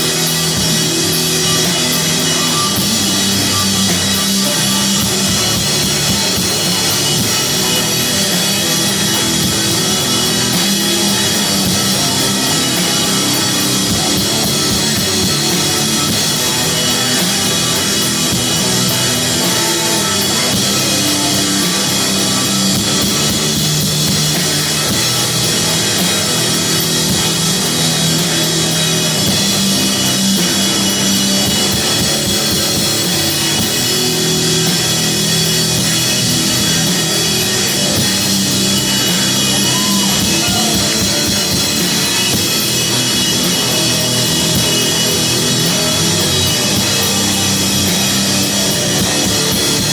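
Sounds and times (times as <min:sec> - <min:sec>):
distorted electric guitars: 0:00.0 - 0:49.9
drum kit: 0:00.0 - 0:49.9.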